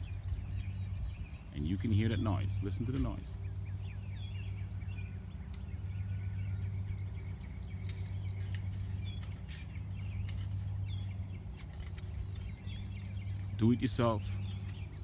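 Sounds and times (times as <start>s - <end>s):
birds chirping: 0.0s - 15.0s
foil crinkling in wind: 0.0s - 15.0s
steady low hum: 0.0s - 15.0s.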